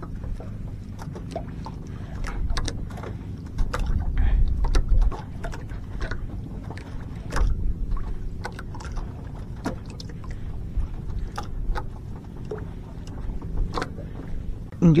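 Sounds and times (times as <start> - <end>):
low boat rumble: 0.0 - 15.0.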